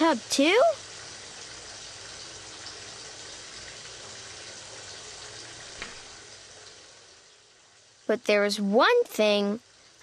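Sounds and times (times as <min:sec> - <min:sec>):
water gushing from overflowing bathtub: 0:00.0 - 0:08.2.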